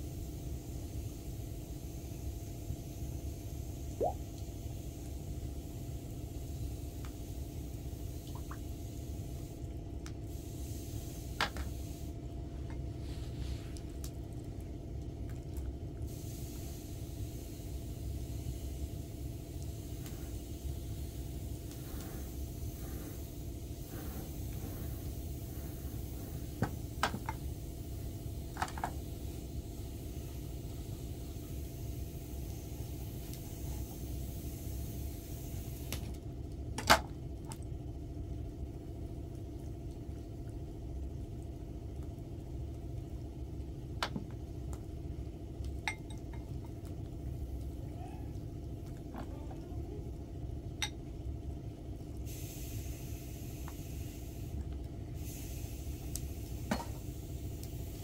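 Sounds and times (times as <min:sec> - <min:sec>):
low steady rumble: 0:00.0 - 0:58.0.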